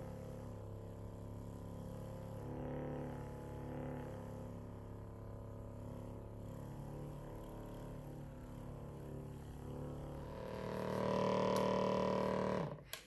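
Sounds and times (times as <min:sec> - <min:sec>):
massager motor humming: 0:00.0 - 0:13.0.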